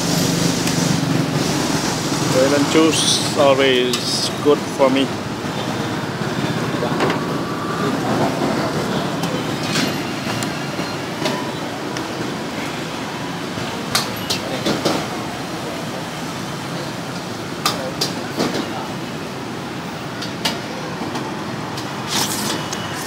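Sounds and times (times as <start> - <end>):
traffic hum: 0.0 - 23.0.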